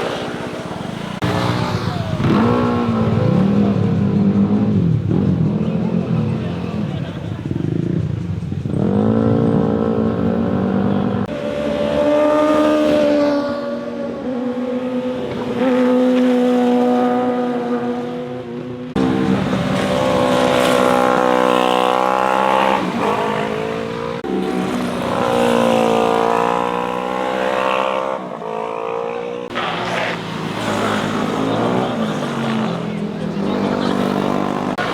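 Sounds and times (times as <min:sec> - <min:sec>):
motorcycles passing: 0:00.0 - 0:34.9.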